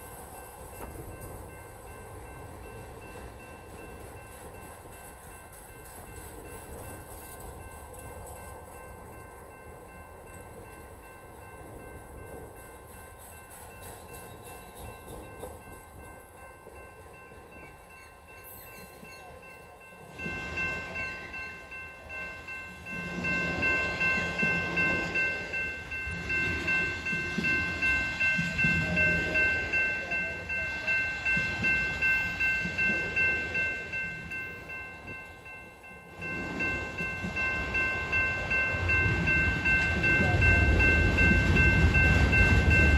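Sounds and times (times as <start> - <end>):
freight train wheels rumbling: 0.0 - 42.9
high-pitched ringing tones: 0.0 - 42.9.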